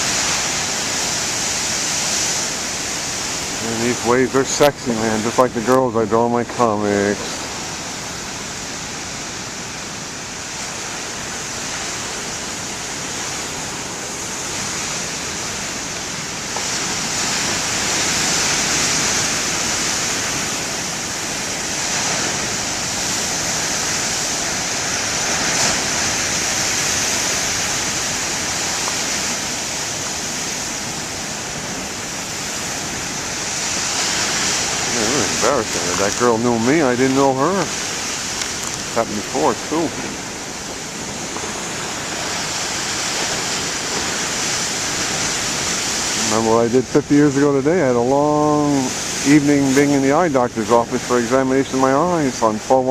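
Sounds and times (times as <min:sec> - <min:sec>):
storm waves breaking on shore: 0:00.0 - 0:52.9.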